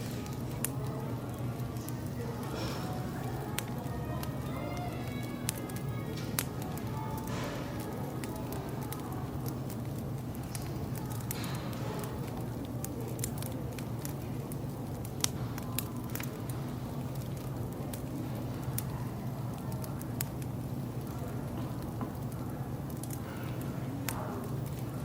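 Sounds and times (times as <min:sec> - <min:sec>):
steady low hum: 0:00.0 - 0:25.0
wood fire crackling: 0:00.0 - 0:25.0.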